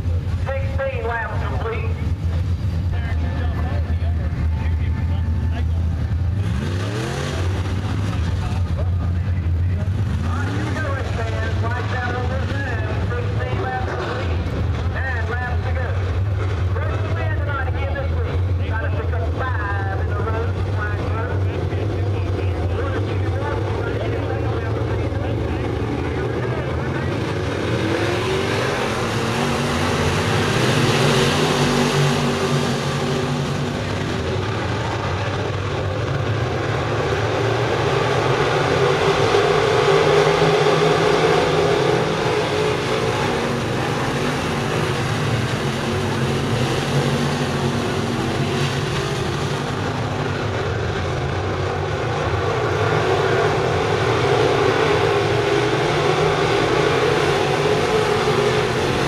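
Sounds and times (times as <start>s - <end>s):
race car engines roaring: 0.0s - 59.0s.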